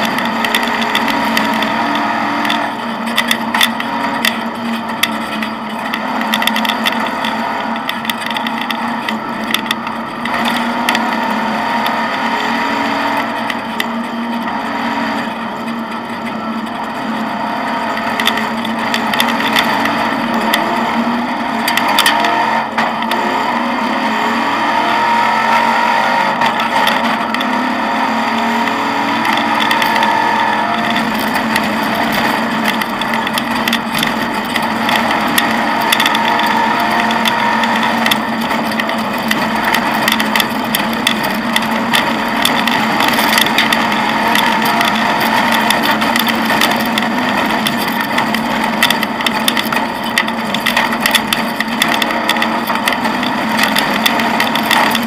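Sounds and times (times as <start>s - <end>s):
car body rattling and knocking: 0.0s - 12.2s, 12.9s - 23.2s, 26.4s - 55.0s
rally car engine revving: 0.0s - 55.0s.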